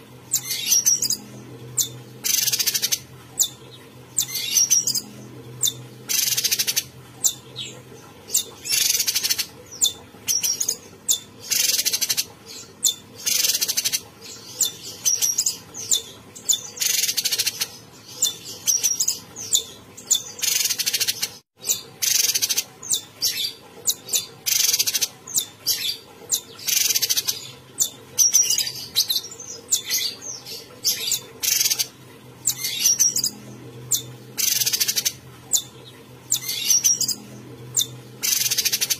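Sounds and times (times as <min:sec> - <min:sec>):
songbird singing: 0:00.3 - 0:38.9.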